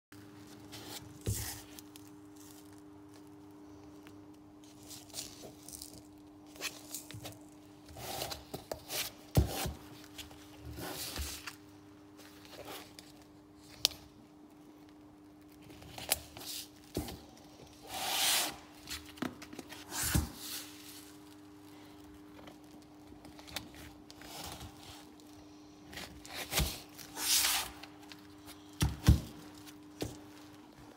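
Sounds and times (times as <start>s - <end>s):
faint steady hum: 0.2s - 30.9s.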